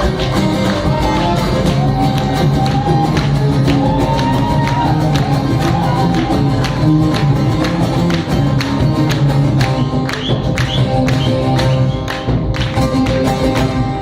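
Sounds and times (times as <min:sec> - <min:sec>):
held bass line: 0:00.0 - 0:14.0.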